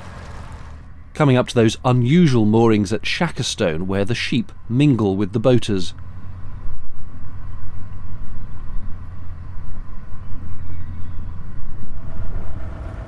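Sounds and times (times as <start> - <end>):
boat diesel engine running: 0.0 - 13.0.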